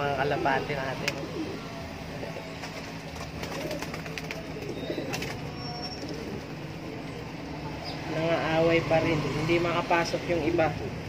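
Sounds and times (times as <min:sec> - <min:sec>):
pigeons cooing: 0:00.0 - 0:11.0
steady low hum: 0:00.0 - 0:11.0.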